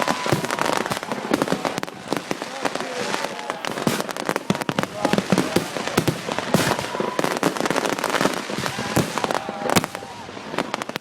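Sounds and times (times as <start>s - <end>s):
crowd voices: 0.0s - 11.0s
firecrackers banging: 0.0s - 11.0s.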